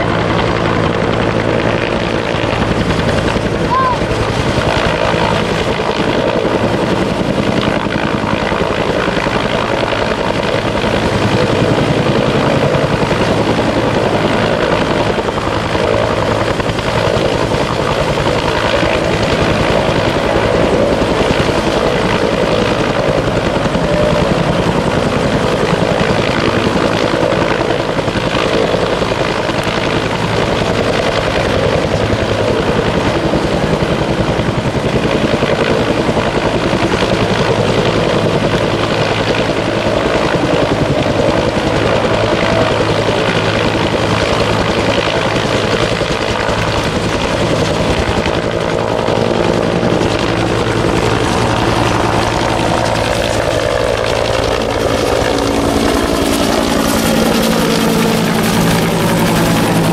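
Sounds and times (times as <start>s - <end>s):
helicopter rotor beating: 0.0s - 59.9s.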